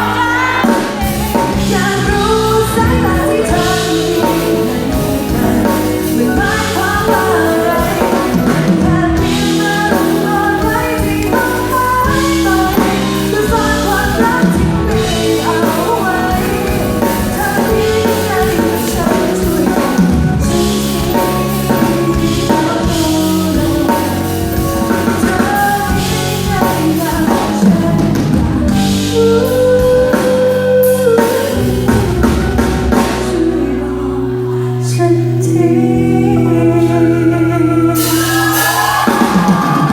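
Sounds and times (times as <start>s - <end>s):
live band with drums and guitar: 0.0s - 35.6s, 37.8s - 39.9s
woman singing pop song: 0.0s - 39.9s.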